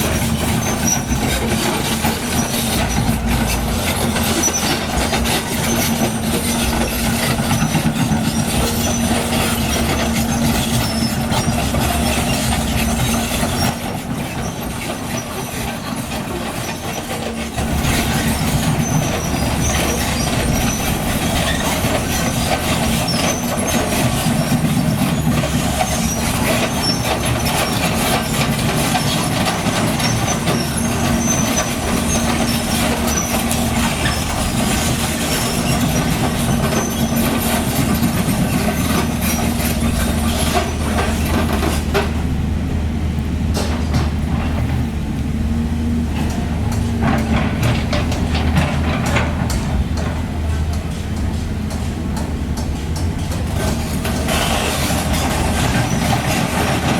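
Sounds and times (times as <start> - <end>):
diesel engine under load: 0.0 - 56.9.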